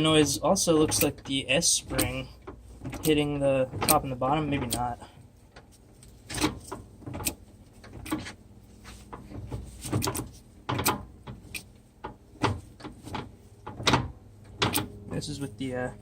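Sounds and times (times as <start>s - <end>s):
differential gears clunking: 0.0s - 8.4s, 9.1s - 15.3s.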